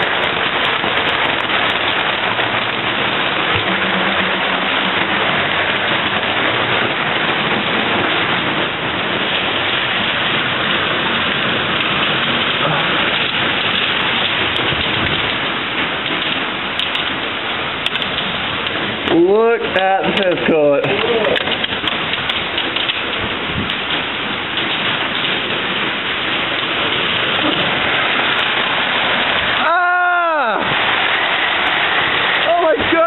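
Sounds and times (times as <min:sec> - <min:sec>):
hail on roof and windows: 0:00.0 - 0:33.0.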